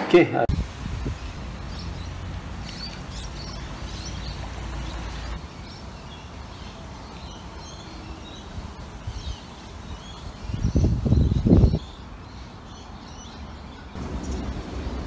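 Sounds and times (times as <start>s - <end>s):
background hiss: 0.3s - 13.0s
small birds chirping: 0.6s - 15.0s.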